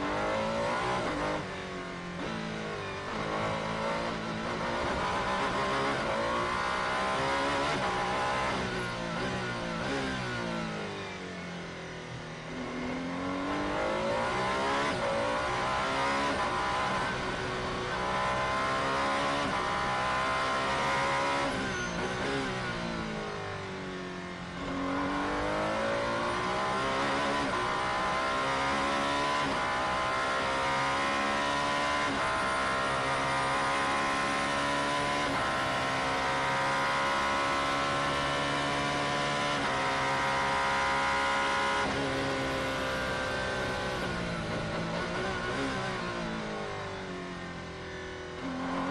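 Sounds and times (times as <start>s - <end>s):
race car engine at speed: 0.0s - 48.9s.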